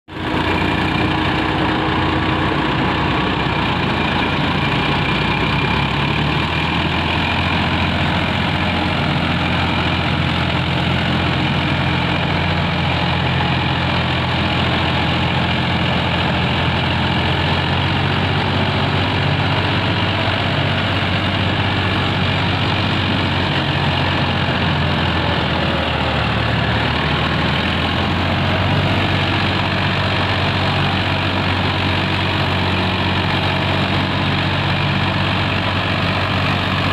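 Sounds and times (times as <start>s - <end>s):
diesel engines running: 0.1s - 36.9s.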